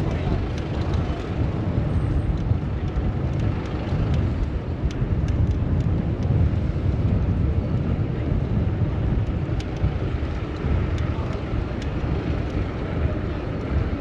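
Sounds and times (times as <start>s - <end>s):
city traffic rumble: 0.0s - 14.0s
wind buffeting microphone: 0.0s - 14.0s.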